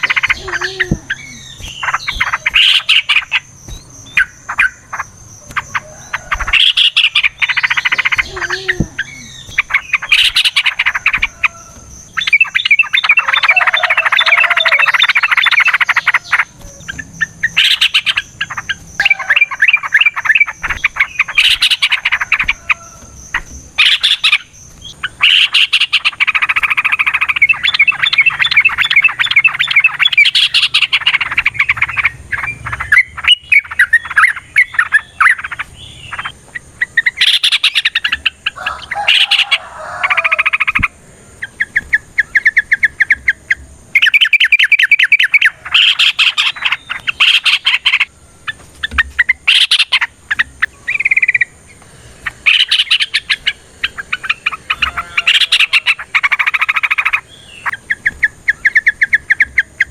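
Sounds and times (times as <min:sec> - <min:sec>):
bird singing chattering trills: 0:00.0 - 0:59.9.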